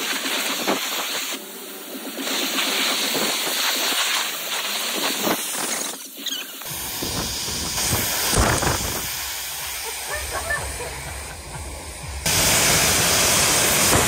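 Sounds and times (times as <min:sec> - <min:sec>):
pressure washer spraying: 0:00.0 - 0:14.0.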